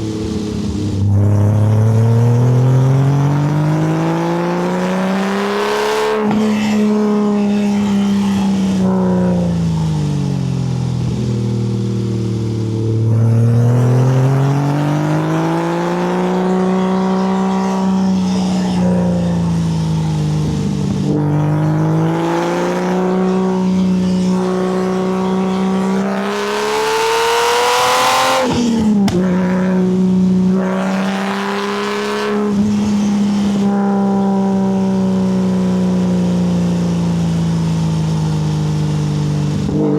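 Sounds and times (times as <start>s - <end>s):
sports car engine revving: 0.0s - 39.9s.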